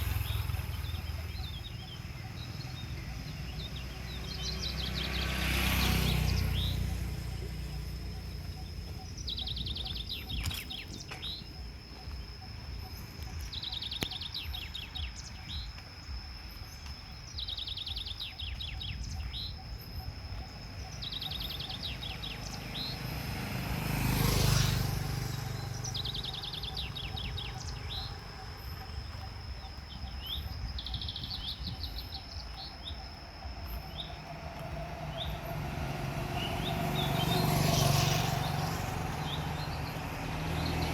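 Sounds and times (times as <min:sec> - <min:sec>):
high insect whine: 0:00.0 - 0:40.9.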